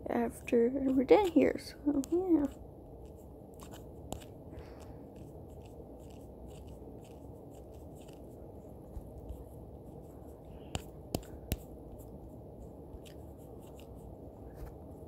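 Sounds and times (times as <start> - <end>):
steady low hiss: 0.0 - 15.0
tapping and scratching on touchscreen: 0.3 - 12.2, 12.9 - 14.1.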